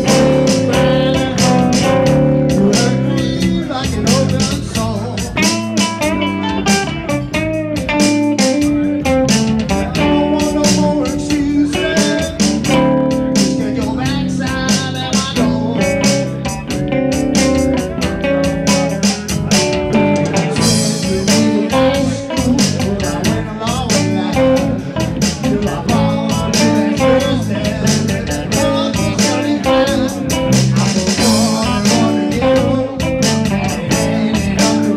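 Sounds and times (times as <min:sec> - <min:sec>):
bass guitar: 0:00.0 - 0:34.9
drum kit steady beat: 0:00.0 - 0:34.9
electric guitar: 0:00.0 - 0:34.9.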